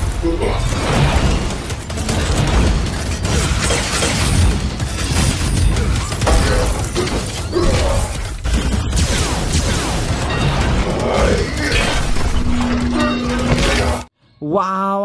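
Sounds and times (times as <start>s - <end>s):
film music: 0.0s - 15.0s.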